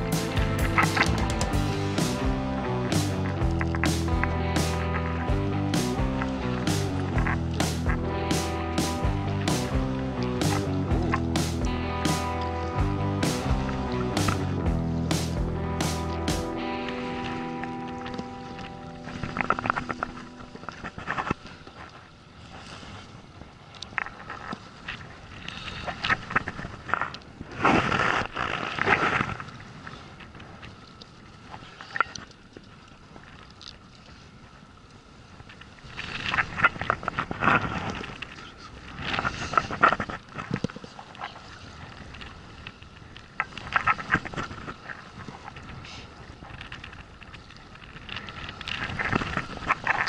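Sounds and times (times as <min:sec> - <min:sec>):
water moving around boat: 0:00.0 - 0:50.0.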